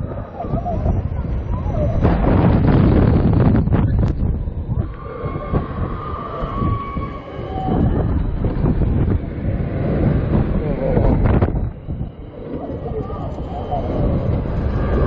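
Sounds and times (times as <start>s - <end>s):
high whine: 0.0s - 15.0s
rushing rumble of wind and ride: 0.0s - 15.0s.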